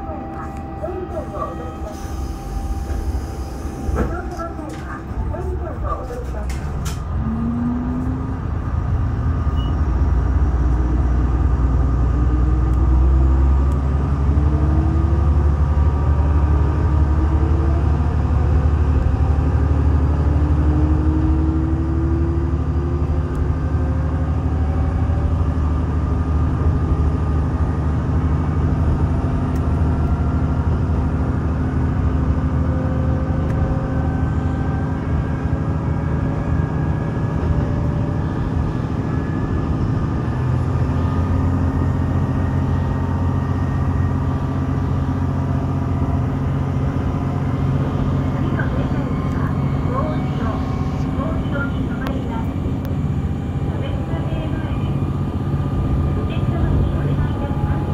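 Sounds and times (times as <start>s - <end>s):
diesel railcar engine rumble: 0.0s - 57.9s
rising train whine: 0.0s - 57.9s.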